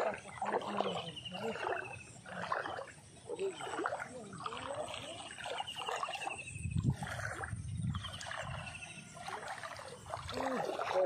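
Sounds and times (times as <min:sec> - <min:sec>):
low splashing water: 0:00.0 - 0:11.0.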